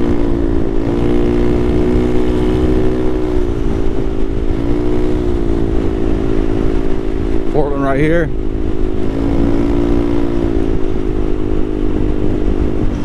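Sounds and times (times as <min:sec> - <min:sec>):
small motorcycle engine humming: 0:00.0 - 0:13.0.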